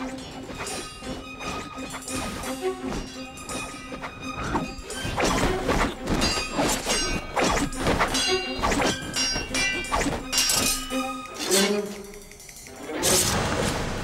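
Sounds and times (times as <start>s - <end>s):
dramatic background music: 0.0s - 14.0s.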